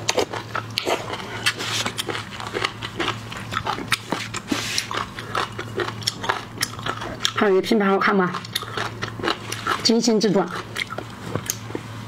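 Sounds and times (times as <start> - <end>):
wet chewing and mouth clicks: 0.0 - 7.5, 8.1 - 9.9, 10.5 - 11.9.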